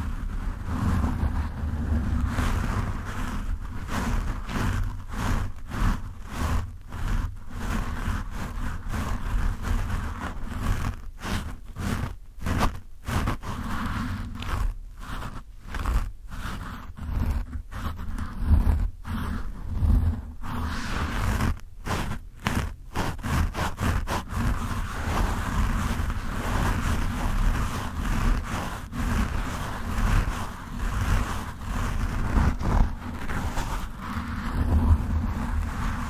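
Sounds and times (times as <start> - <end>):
fingers scratching foam windscreen: 0.0 - 36.0.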